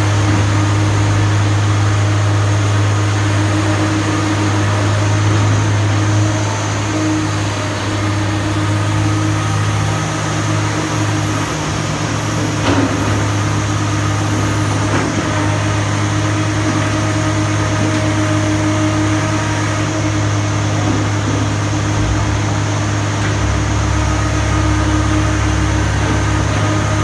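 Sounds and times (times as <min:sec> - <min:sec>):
excavator diesel engine humming: 0:00.0 - 0:27.0.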